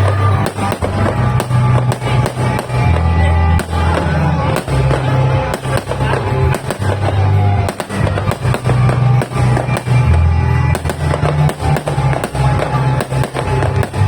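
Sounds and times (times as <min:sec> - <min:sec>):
fireworks volley of bangs: 0:00.0 - 0:14.0
music with heavy bass: 0:00.0 - 0:14.0.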